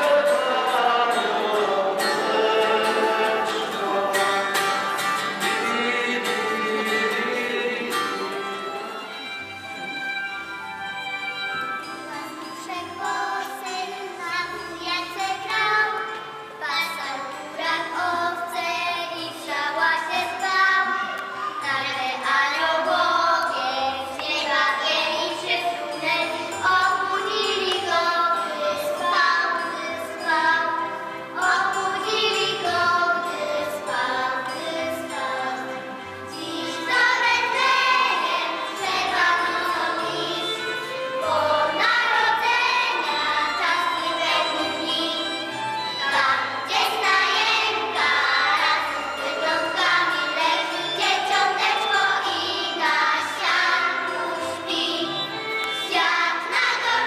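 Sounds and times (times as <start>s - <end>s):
children singing: 0.0s - 10.2s, 11.8s - 57.0s.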